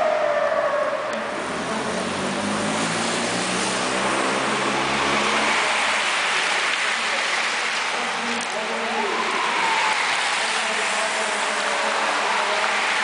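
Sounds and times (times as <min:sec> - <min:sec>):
bicycles rushing past: 0:01.4 - 0:13.0.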